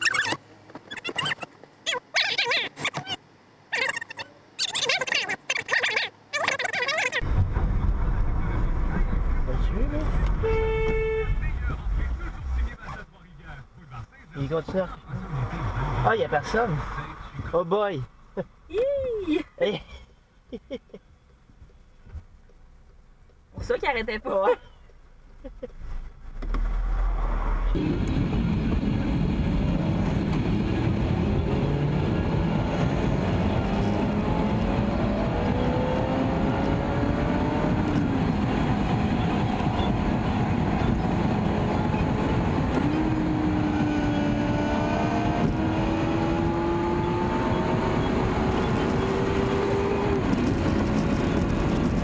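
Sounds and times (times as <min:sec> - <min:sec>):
car engine: 0:00.0 - 0:52.0.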